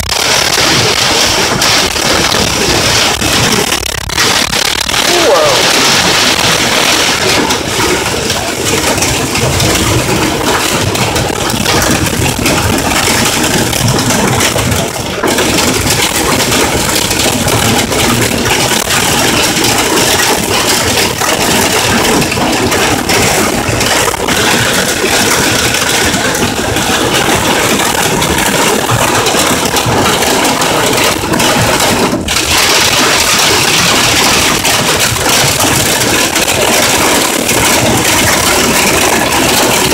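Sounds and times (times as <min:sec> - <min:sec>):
hail and rain on car roof: 0:00.0 - 0:39.9.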